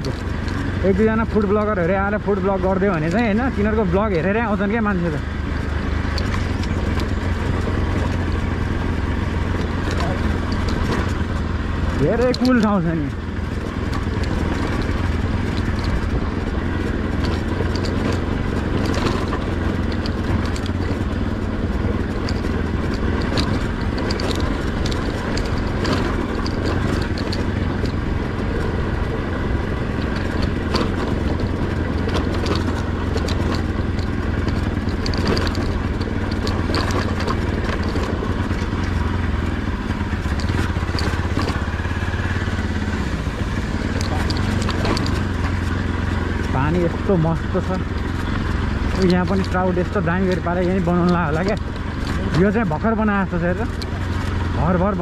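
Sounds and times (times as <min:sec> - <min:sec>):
clicks and rattles: 0:00.0 - 0:55.0
motorcycle engine running: 0:00.0 - 0:55.0.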